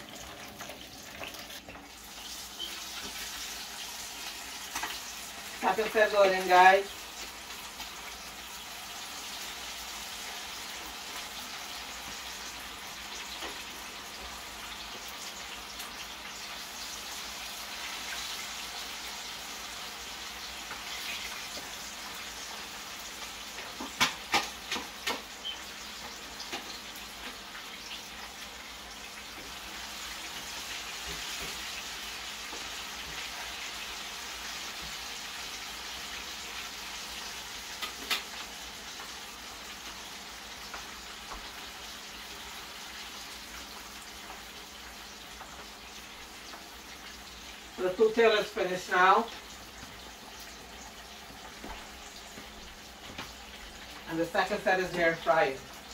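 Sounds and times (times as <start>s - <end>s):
fish sizzling in oil: 0.0s - 55.9s.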